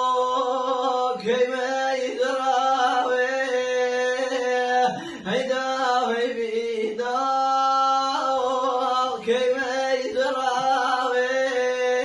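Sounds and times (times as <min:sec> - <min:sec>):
person singing slow chant: 0:00.0 - 0:12.0.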